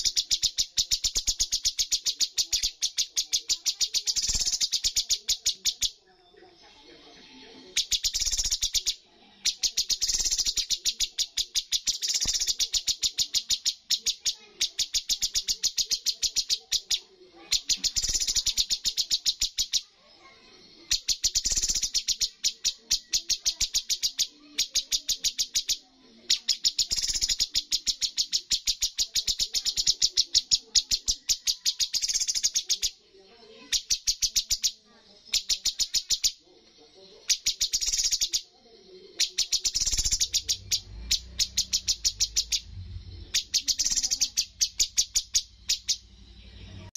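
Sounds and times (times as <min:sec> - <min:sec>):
bird song rapid high notes: 0:00.0 - 0:06.0, 0:07.7 - 0:19.9, 0:20.9 - 0:32.9, 0:37.2 - 0:38.4, 0:39.2 - 0:46.1.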